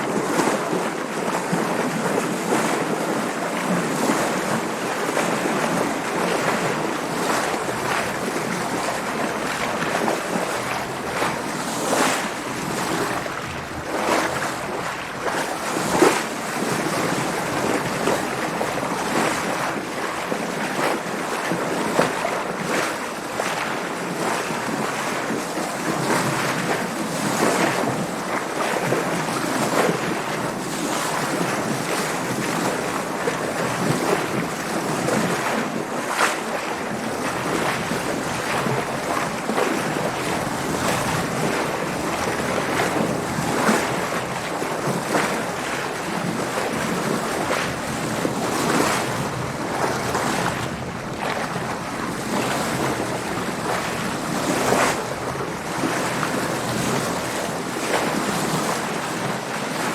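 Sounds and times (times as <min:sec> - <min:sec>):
water splashing against a boat: 0:00.0 - 0:59.9
wind: 0:00.0 - 0:59.9.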